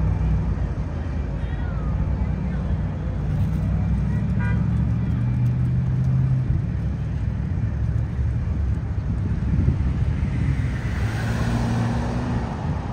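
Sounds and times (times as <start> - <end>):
rumble of passing vehicles: 0.0 - 12.9.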